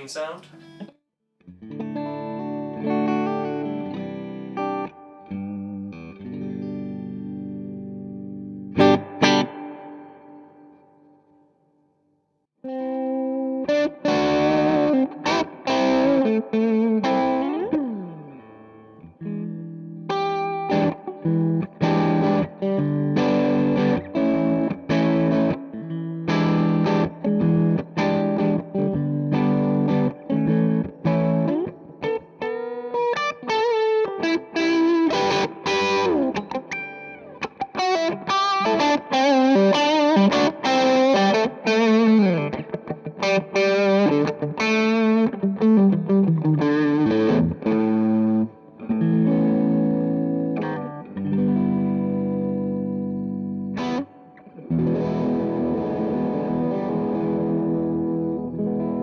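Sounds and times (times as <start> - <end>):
electric guitar lead with bends: 1.5 - 10.9, 12.7 - 59.0
distorted electric guitar chords: 1.7 - 10.5, 12.7 - 59.0.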